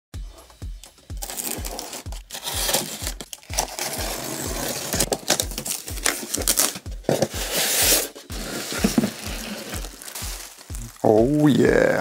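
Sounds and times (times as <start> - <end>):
background music with steady beat: 0.1 - 12.0
tape tearing: 1.1 - 11.1
cardboard and foam scraping: 1.2 - 11.3.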